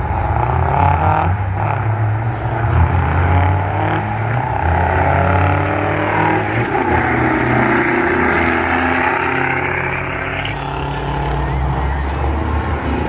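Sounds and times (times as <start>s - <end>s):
diesel truck engines revving: 0.0s - 13.0s.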